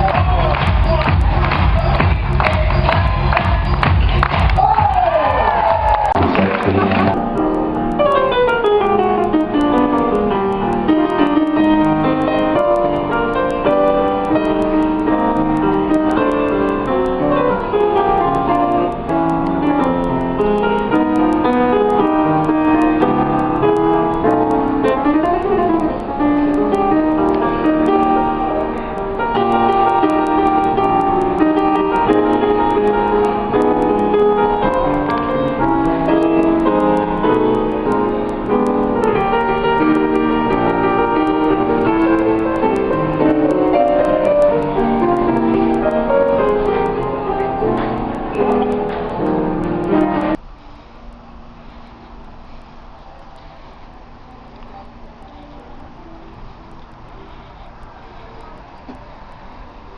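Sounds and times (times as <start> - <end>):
piano music: 0.0 - 50.4.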